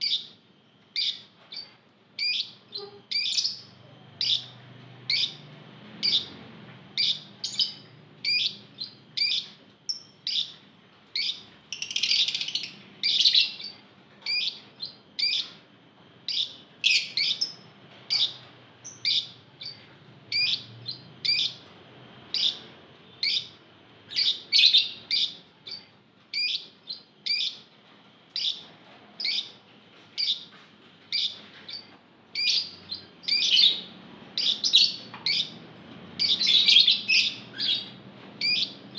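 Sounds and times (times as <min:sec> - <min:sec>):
lovebirds chirping: 0:00.0 - 0:15.6, 0:16.3 - 0:21.6, 0:22.3 - 0:27.6, 0:28.4 - 0:29.5, 0:30.2 - 0:30.5, 0:31.1 - 0:35.6, 0:36.2 - 0:38.9.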